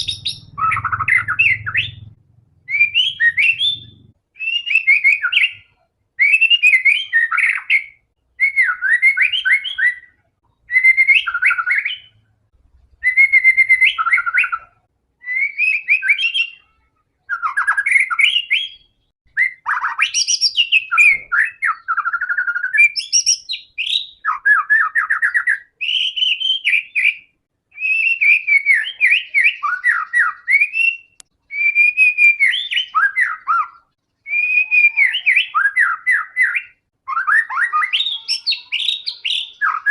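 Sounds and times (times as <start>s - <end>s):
bird singing whistled phrases: 0.0s - 2.1s, 2.7s - 12.2s, 13.0s - 39.9s.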